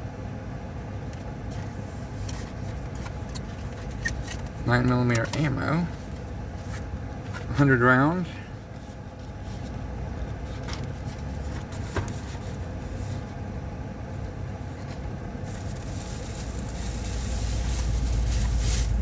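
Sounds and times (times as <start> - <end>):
vehicle rumbling: 0.0 - 19.0.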